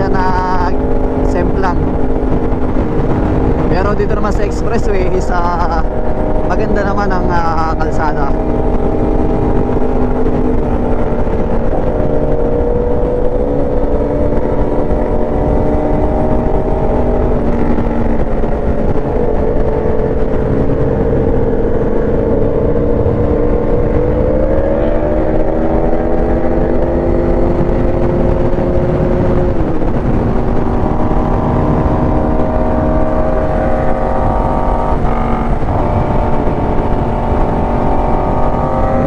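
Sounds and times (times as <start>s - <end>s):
motorcycle engine running: 0.0s - 39.0s
wind rush: 0.0s - 39.0s.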